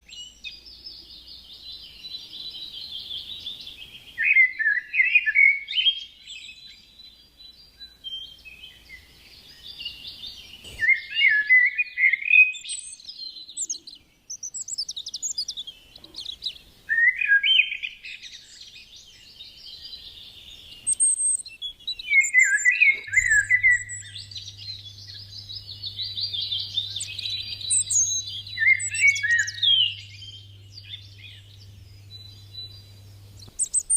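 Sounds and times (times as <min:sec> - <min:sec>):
birds singing and twittering: 0:00.0 - 0:33.9
loud falling bird song phrase: 0:00.0 - 0:33.9.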